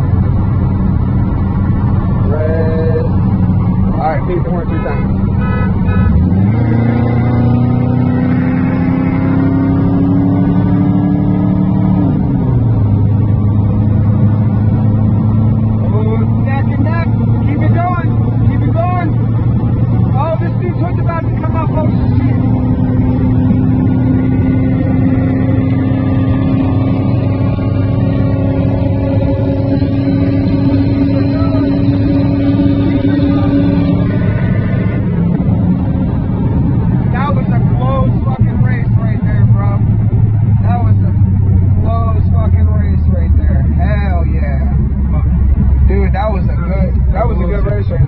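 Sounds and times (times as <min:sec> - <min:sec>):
car engine accelerating: 0:00.0 - 0:48.0.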